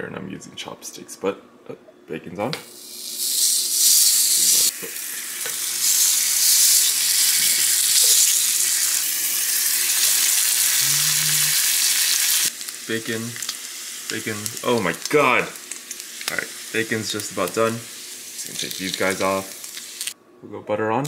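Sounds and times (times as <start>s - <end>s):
bacon sizzling in a pan: 2.7s - 20.2s.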